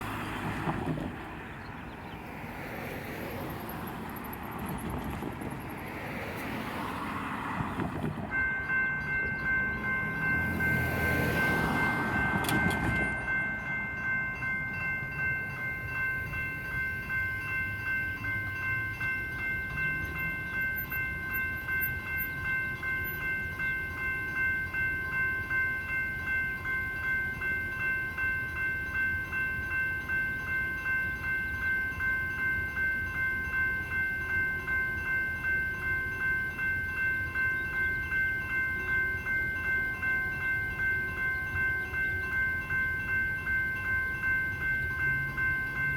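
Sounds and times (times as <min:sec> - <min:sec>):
railroad crossing bells ringing: 0:00.0 - 0:45.9.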